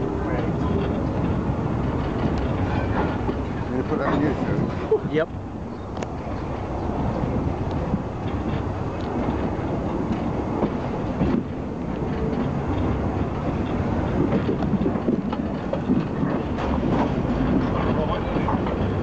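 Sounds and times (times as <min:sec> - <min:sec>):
train wheels rumbling: 0:00.0 - 0:19.0
wheels clicking over rails: 0:00.0 - 0:19.0.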